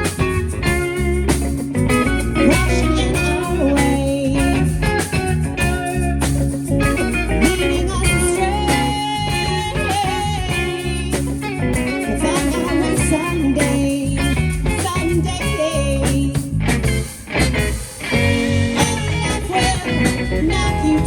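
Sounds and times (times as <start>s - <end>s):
bass: 0.0s - 21.0s
drums: 0.0s - 21.0s
electric guitar with pitch bends: 0.0s - 21.0s.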